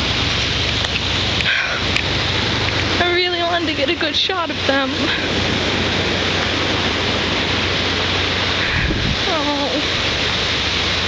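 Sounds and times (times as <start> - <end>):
ocean surf on beach: 0.0 - 11.0.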